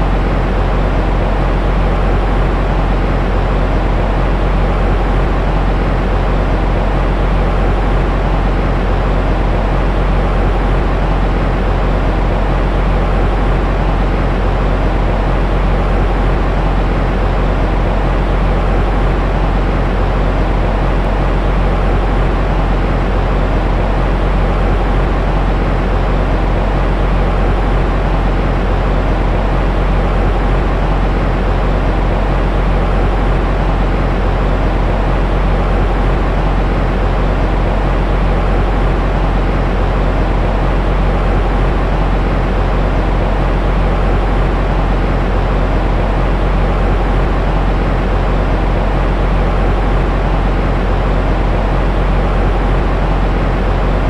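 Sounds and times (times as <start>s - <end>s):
deep white noise hiss: 0.0s - 54.0s.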